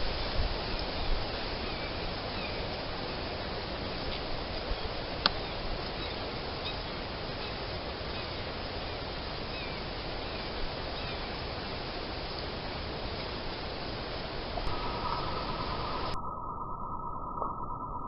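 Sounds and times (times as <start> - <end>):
outdoor background hiss: 0.0 - 16.2.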